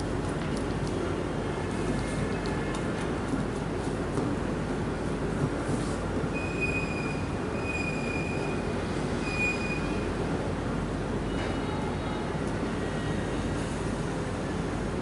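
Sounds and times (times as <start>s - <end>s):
constant background noise: 0.0s - 15.0s.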